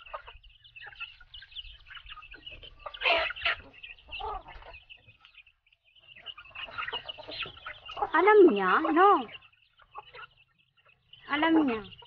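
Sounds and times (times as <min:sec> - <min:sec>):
chicken squawks: 0:00.0 - 0:12.0
chickens clucking: 0:00.0 - 0:12.0.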